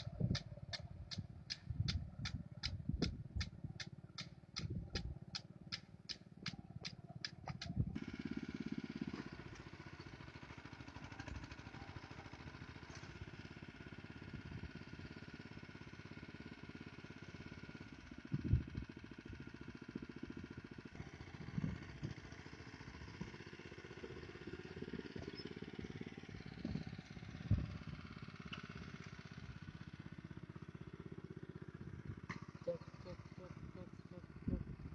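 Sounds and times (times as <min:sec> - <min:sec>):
small engine running: 0:00.0 - 0:34.9.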